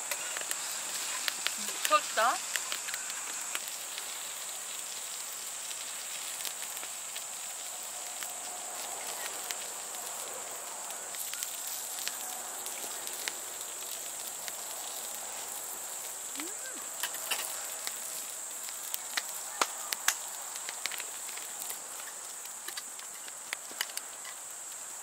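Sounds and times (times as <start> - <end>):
firewood crackling and popping: 0.0 - 25.0.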